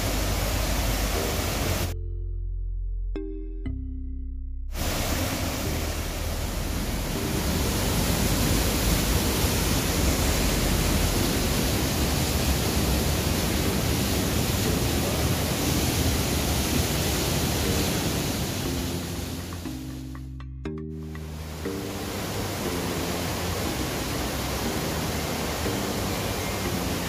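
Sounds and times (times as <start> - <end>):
stream rushing over rocks: 0.0 - 2.0, 4.8 - 19.6, 21.2 - 27.0.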